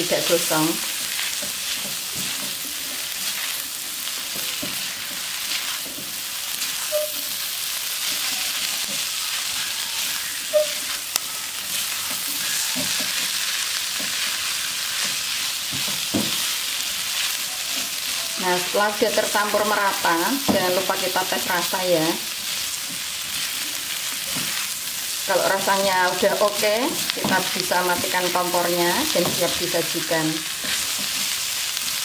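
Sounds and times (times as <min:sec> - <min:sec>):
food sizzling in a wok: 0:00.0 - 0:32.0
spatula scraping and tossing food: 0:00.2 - 0:18.4, 0:20.6 - 0:32.0.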